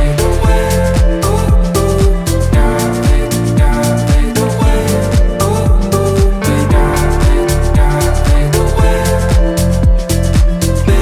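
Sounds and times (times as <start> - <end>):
deep kick drum beat: 0.0 - 11.0
held chords: 0.0 - 11.0.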